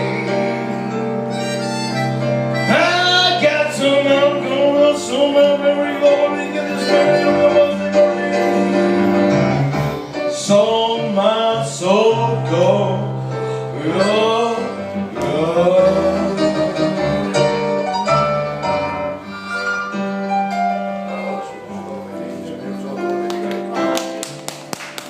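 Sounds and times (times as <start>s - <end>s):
live blues band playing: 0.0s - 25.0s.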